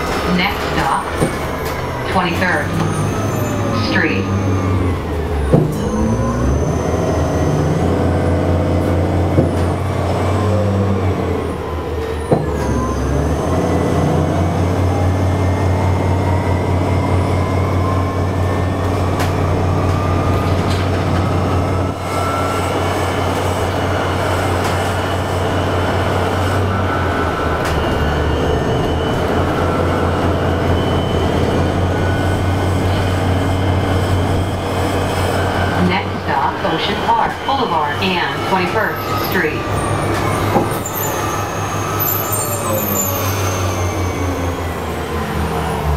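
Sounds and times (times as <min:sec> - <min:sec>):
bus interior low hum: 0:00.0 - 0:45.9.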